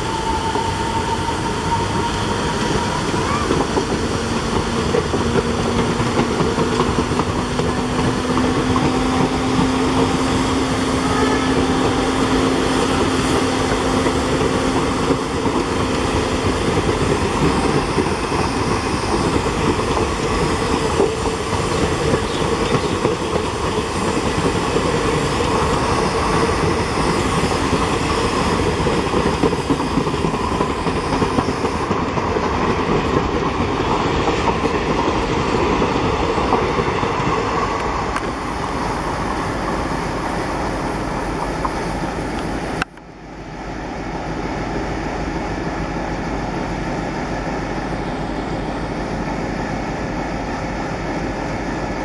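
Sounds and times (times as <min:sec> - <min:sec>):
train wheels on rails: 0:00.0 - 0:52.0.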